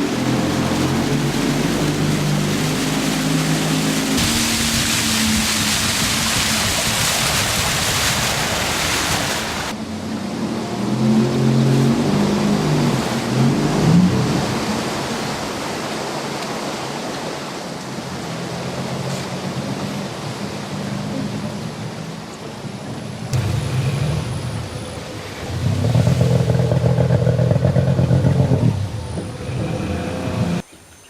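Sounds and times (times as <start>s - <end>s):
motorboat motor running: 0.0s - 15.7s, 17.8s - 30.6s
rushing water and wind: 0.0s - 31.0s.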